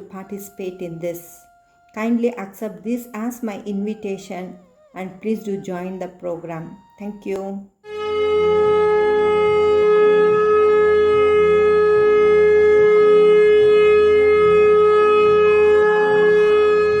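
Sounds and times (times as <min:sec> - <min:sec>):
wind instrument long note: 0:00.0 - 0:17.0.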